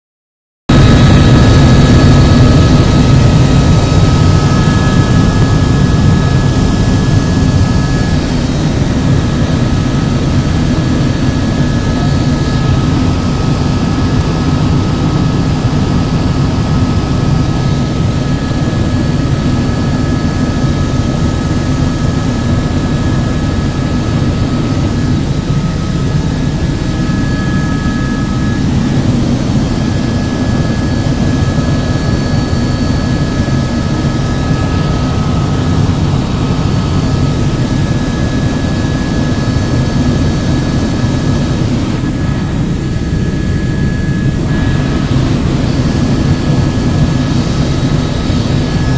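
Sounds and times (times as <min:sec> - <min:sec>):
helicopter engine and rotor drone: 0:00.7 - 0:48.9
high whine: 0:00.7 - 0:48.9.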